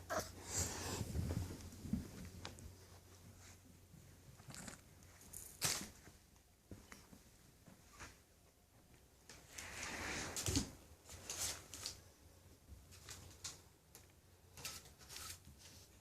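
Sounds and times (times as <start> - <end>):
puppies scuffling and rustling: 0.1 - 16.0.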